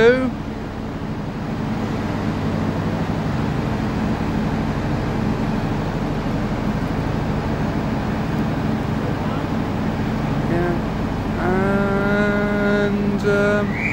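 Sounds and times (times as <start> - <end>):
train diesel engines idling: 0.0 - 13.9.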